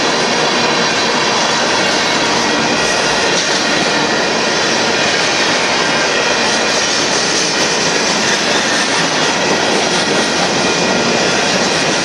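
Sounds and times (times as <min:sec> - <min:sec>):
steel wheels running on rails: 0:00.0 - 0:12.0.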